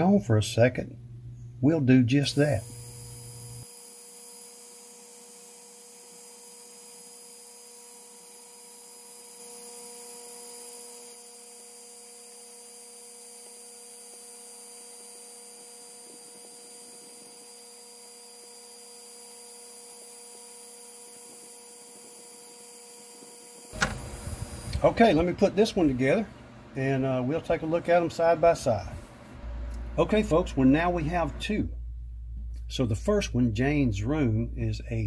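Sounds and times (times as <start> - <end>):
laser cutter humming: 0.9 - 32.4.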